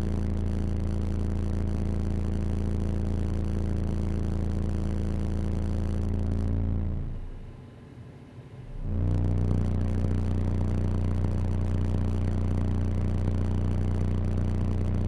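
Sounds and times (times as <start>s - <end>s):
low drone inside a car: 0.0s - 7.9s, 8.6s - 15.0s.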